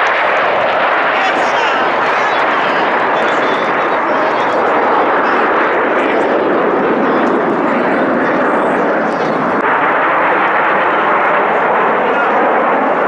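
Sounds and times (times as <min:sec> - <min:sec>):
aircraft engines rushing: 0:00.0 - 0:13.0.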